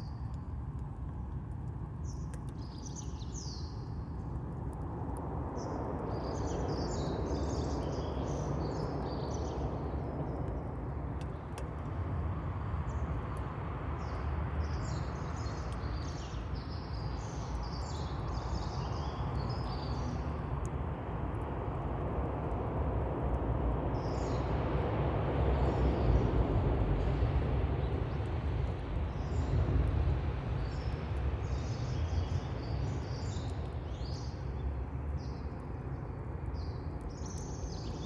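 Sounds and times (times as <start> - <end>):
low outdoor rumble: 0.0 - 38.0
campfire crackling: 0.1 - 24.5, 25.6 - 38.0.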